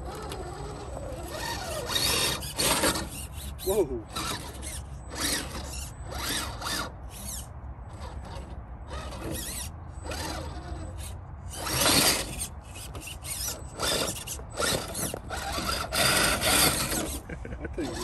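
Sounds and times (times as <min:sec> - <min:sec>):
electric motor and drivetrain whining: 0:00.0 - 0:18.0.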